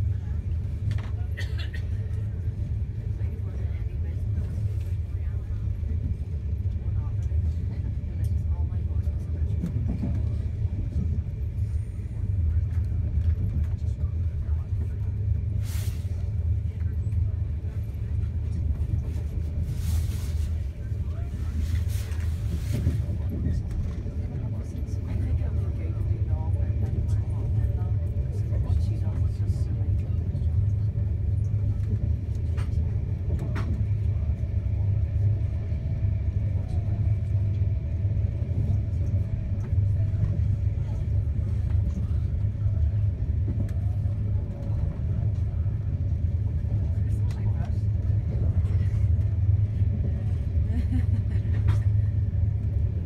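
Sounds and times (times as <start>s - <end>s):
train interior rumble: 0.0s - 53.0s.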